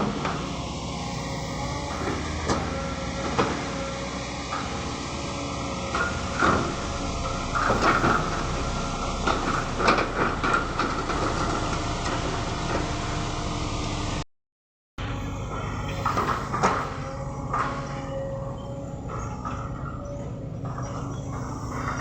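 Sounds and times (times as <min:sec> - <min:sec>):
excavator diesel engine running: 0:00.0 - 0:14.2, 0:15.0 - 0:22.0
metallic clanks and squeaks: 0:00.2 - 0:12.2, 0:15.4 - 0:22.0.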